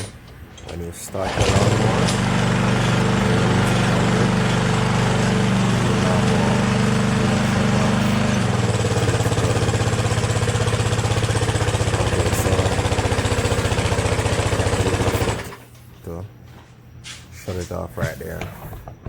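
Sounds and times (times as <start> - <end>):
lawnmower engine running: 0.0 - 16.2.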